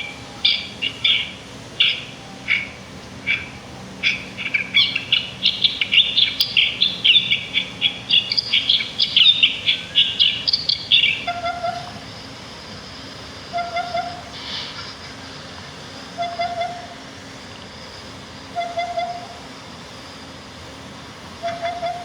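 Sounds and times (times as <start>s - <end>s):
short lower bird calls: 0.0s - 19.8s, 21.4s - 22.0s
songbirds chirping and twittering: 0.0s - 22.0s.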